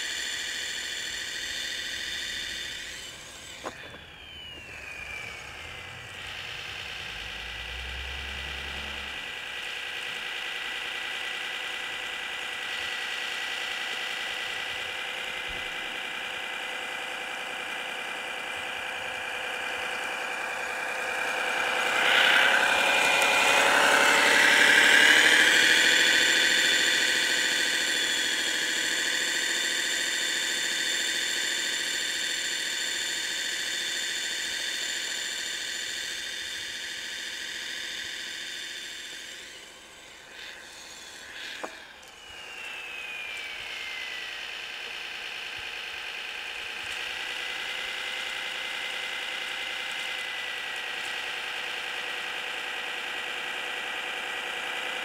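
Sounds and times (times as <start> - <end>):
high whining tones: 0.0 - 54.6
engine sound from small speaker: 0.0 - 55.0.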